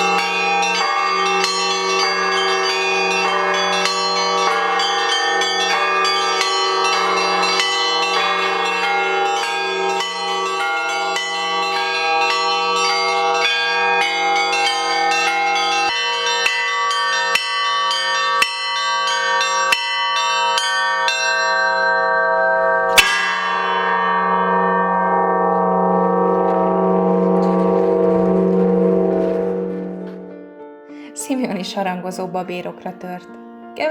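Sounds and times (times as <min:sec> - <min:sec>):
small church bells ringing: 0:00.0 - 0:30.5
large bell humming: 0:00.0 - 0:32.0.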